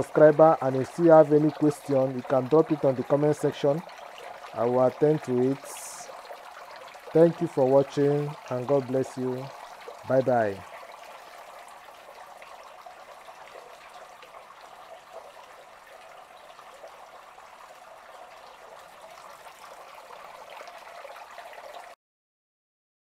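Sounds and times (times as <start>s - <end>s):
water trickling into tank: 0.0s - 22.0s.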